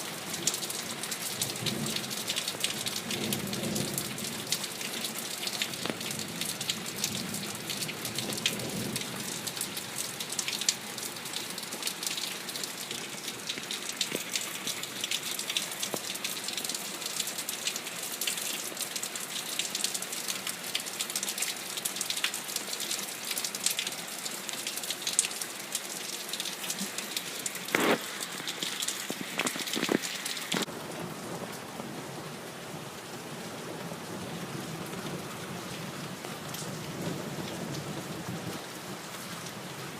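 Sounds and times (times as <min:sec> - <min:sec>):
raindrops striking a surface: 0:00.0 - 0:39.9
steady rain: 0:00.0 - 0:39.9.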